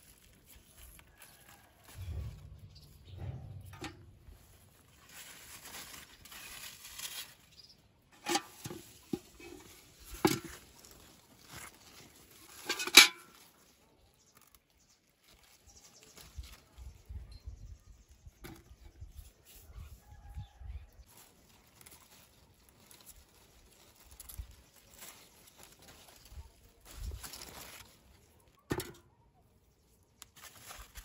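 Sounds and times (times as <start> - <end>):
leaves rustling: 0.0 - 17.1, 21.0 - 28.8, 30.1 - 31.0.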